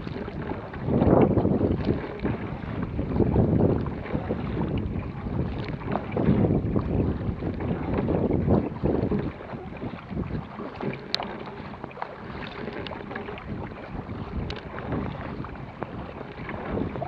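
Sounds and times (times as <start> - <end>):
paddle strokes: 0.0 - 17.0
water slapping against hull: 0.0 - 17.0
wind buffeting microphone: 0.0 - 17.0.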